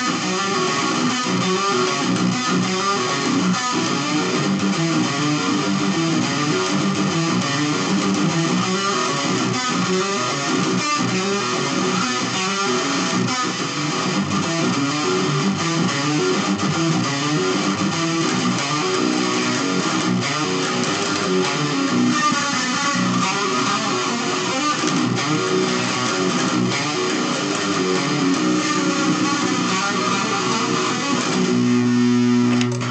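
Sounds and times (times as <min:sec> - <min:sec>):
electric guitar fast riff: 0:00.0 - 0:32.9.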